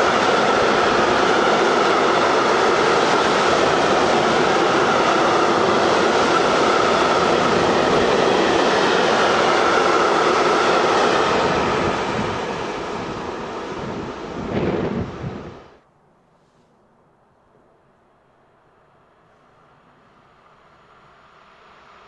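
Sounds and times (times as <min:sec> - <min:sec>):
train passing at speed: 0:00.0 - 0:15.9, 0:17.5 - 0:22.0.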